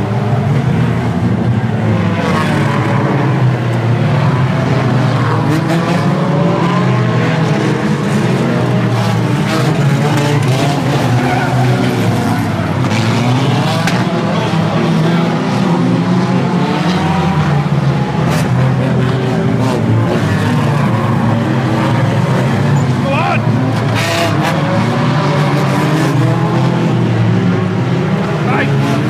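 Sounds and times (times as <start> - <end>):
racing car engines revving: 0.0 - 29.0
tyres skidding: 0.1 - 29.0.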